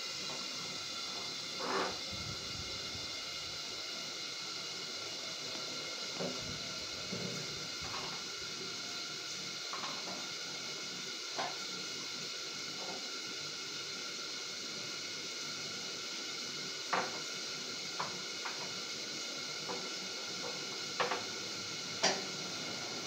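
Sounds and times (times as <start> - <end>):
gas burner hiss: 0.0 - 23.0.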